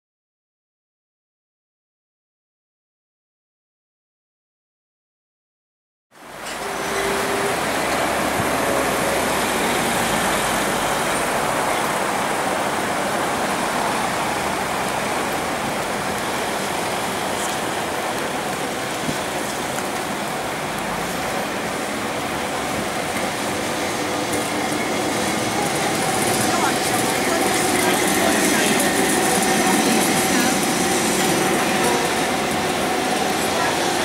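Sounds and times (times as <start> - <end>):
city street traffic: 6.1 - 34.0.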